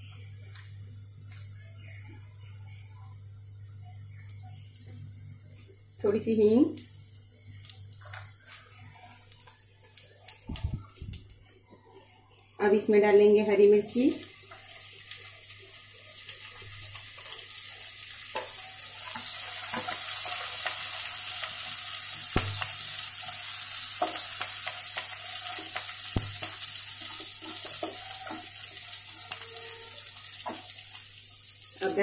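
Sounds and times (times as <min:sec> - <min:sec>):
chillies sizzling in hot oil: 0:01.3 - 0:32.0.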